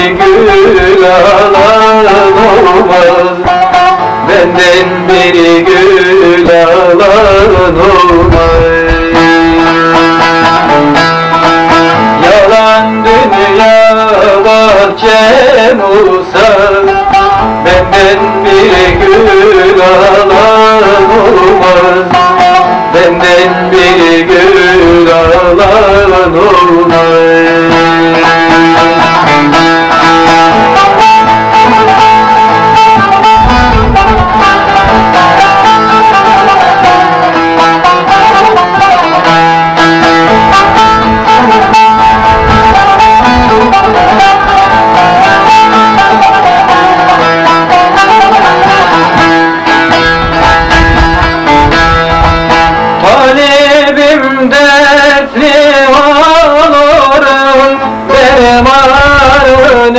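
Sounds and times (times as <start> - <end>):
man singing: 0.0 - 59.9
plucked long-necked lute: 0.0 - 59.9.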